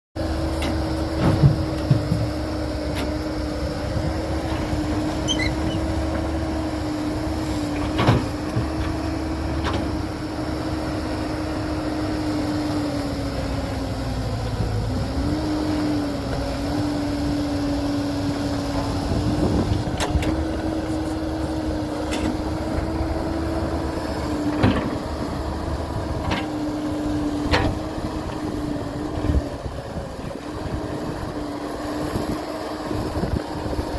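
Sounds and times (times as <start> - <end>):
diesel machinery droning: 0.2 - 33.9.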